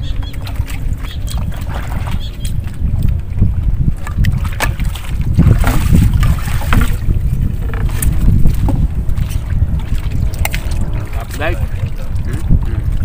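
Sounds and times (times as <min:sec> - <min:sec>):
water lapping against boat: 0:00.0 - 0:13.0
wind rumbling on microphone: 0:00.0 - 0:13.0.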